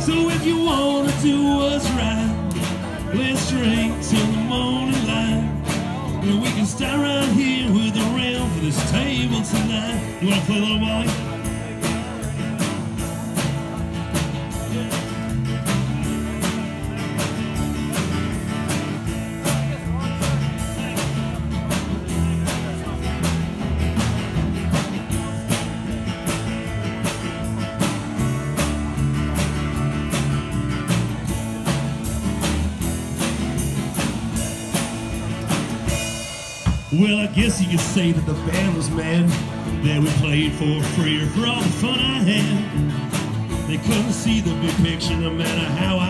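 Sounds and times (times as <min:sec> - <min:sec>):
bass: 0:00.0 - 0:46.0
guitar: 0:00.0 - 0:46.0
steady drum beat: 0:00.0 - 0:46.0.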